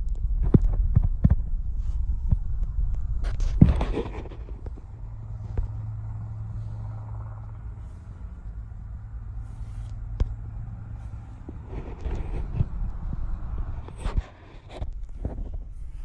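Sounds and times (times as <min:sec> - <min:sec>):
car engine humming: 0:00.2 - 0:16.0.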